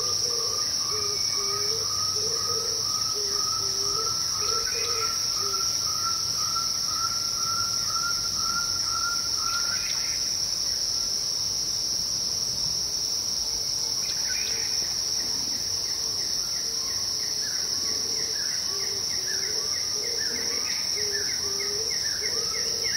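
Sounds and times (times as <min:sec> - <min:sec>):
short repeated insect calls: 0:00.0 - 0:22.9.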